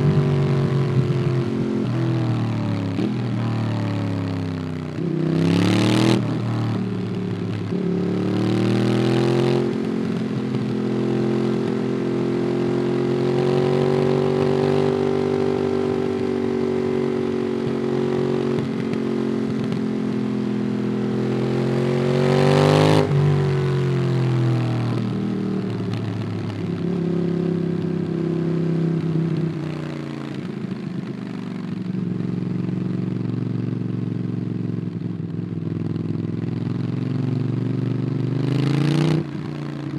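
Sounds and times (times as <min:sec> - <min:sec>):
motorcycle engine revving: 0:00.0 - 0:30.7, 0:35.6 - 0:39.9.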